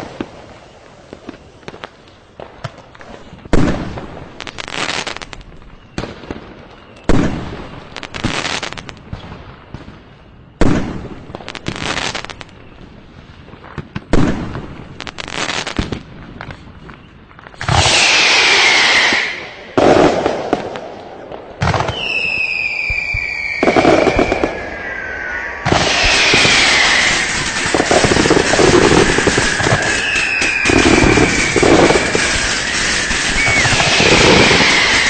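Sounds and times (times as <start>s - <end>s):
firework bangs: 0.0s - 12.4s, 13.0s - 16.6s, 17.5s - 35.0s
firecrackers crackling pops: 1.0s - 35.0s.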